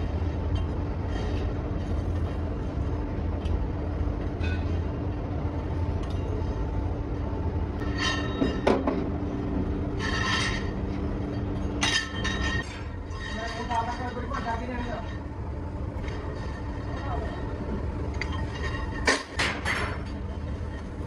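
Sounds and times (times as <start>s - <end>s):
workshop machinery hum: 0.0s - 21.0s.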